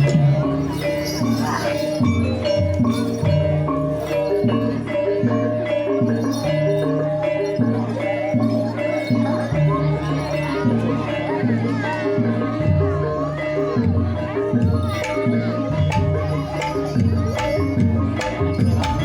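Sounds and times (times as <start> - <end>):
gamelan music: 0.0 - 19.0.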